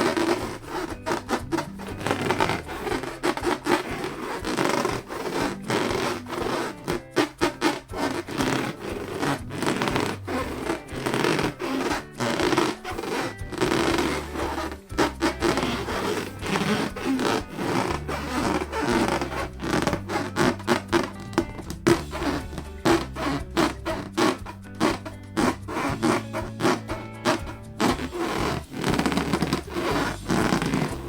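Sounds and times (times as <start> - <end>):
background music with bass: 0.0 - 31.0
balloons being rubbed: 0.0 - 31.0.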